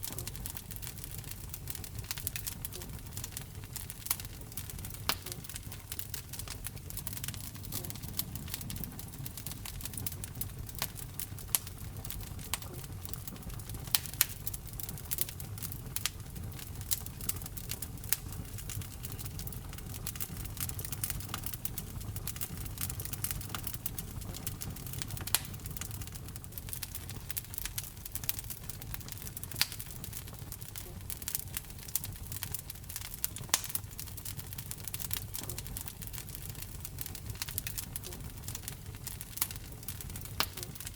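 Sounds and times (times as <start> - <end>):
fire crackling and popping: 0.0 - 40.9
flames rumbling: 0.0 - 40.9.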